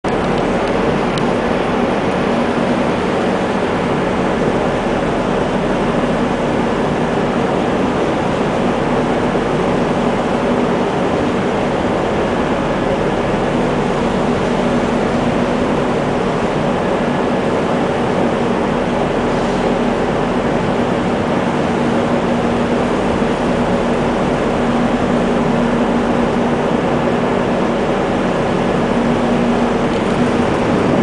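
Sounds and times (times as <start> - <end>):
low machinery hum: 0.0 - 31.0
continuous rush: 0.1 - 31.0.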